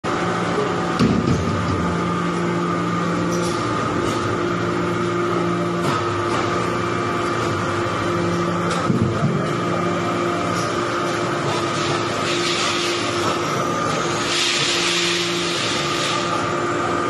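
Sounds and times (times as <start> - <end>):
pump and motor hum: 0.0 - 17.0.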